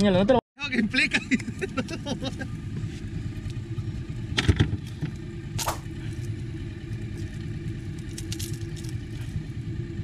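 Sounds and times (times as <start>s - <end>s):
outboard motor rumble: 0.1s - 10.0s.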